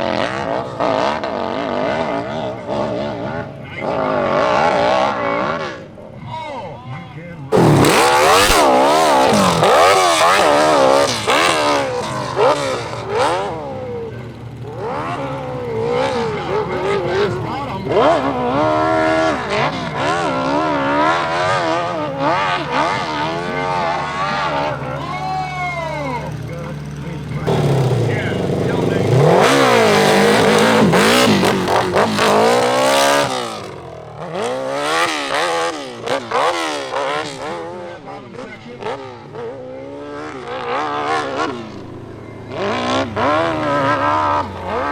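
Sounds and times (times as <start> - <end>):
motorcycle engine revving hard: 0.0 - 6.1, 7.5 - 44.9.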